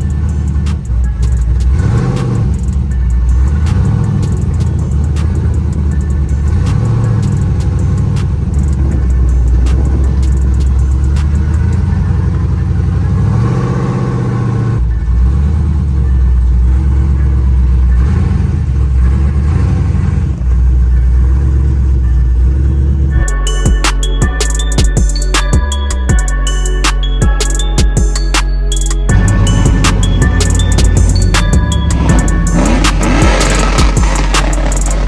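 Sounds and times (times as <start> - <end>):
truck engine revving: 0.0 - 23.2, 29.1 - 35.0.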